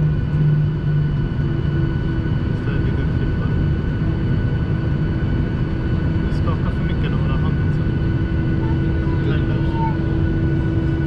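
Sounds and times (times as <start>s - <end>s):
airliner engines droning: 0.0s - 11.0s
high engine whine: 0.0s - 11.0s.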